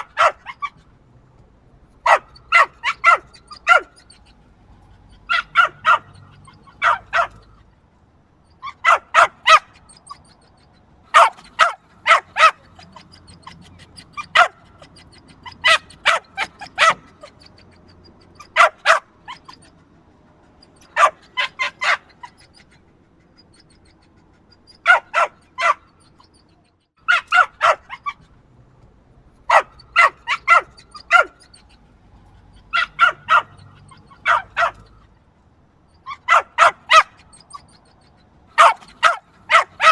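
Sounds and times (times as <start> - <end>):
small dog yapping: 0.0 - 0.9, 2.0 - 7.6, 8.5 - 28.3, 29.5 - 35.2, 35.9 - 39.9.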